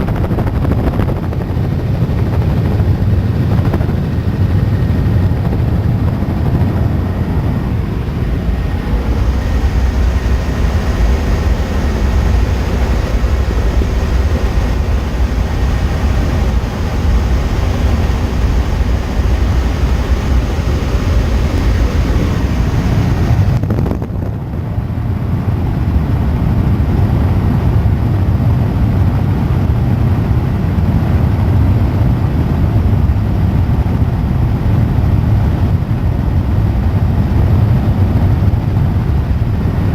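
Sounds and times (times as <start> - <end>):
helicopter rotor and engine noise: 0.0 - 39.9.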